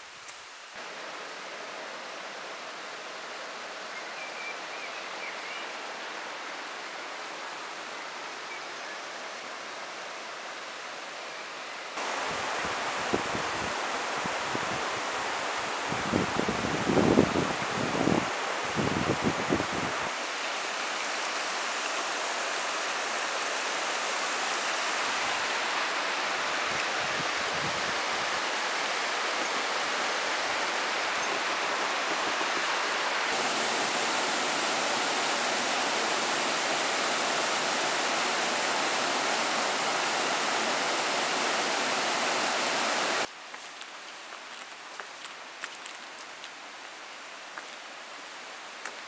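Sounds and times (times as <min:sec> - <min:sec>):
rushing stream water: 0:00.0 - 0:49.0.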